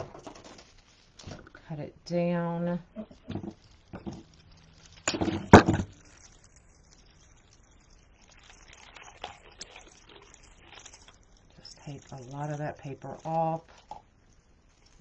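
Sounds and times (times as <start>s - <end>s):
paper crinkling: 0.0s - 1.7s, 3.0s - 15.0s.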